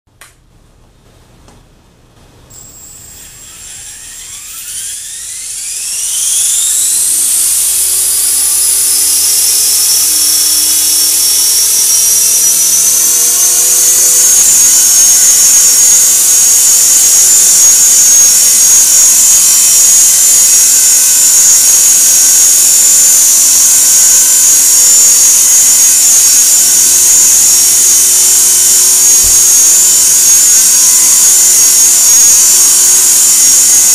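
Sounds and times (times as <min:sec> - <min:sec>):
electric helicopter motor whine: 0:02.5 - 0:33.9.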